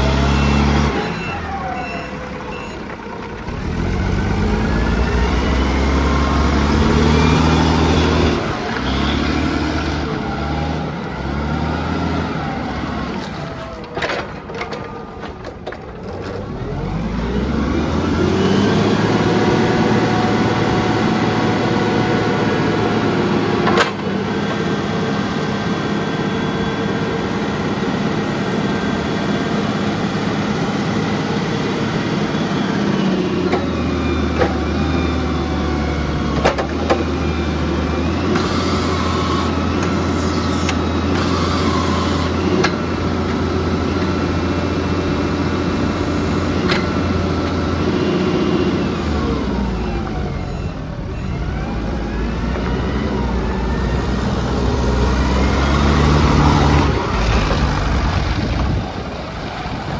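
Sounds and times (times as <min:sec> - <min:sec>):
forklift diesel engine running: 0:00.0 - 0:59.9.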